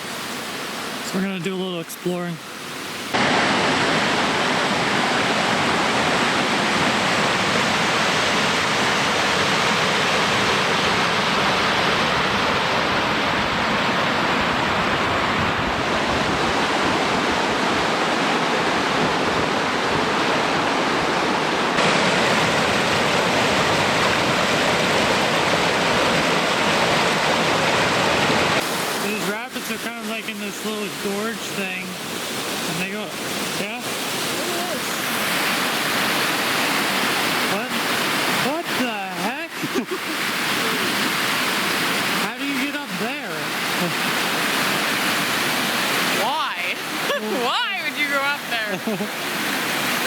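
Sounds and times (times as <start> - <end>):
whitewater rushing: 0.0 - 50.0.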